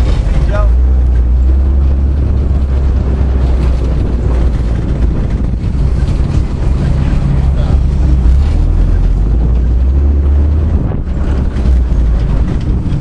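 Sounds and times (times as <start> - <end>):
military vehicle engines rumbling: 0.0 - 13.0.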